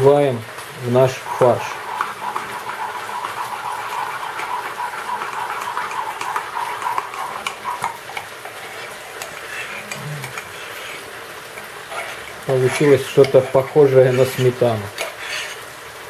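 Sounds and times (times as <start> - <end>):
food sizzling in a pan: 0.0 - 16.0
thick liquid pouring: 0.0 - 16.0.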